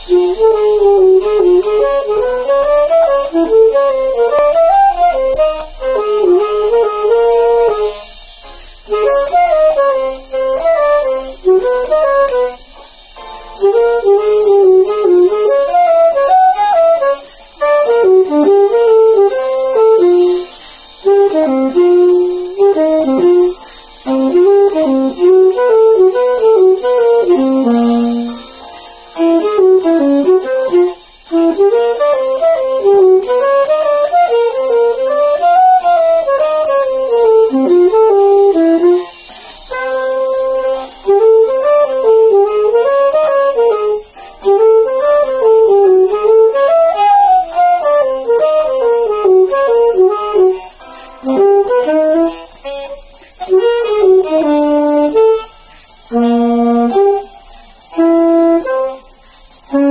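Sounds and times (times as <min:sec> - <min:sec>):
alto saxophone jazzy melody: 0:00.0 - 0:59.9.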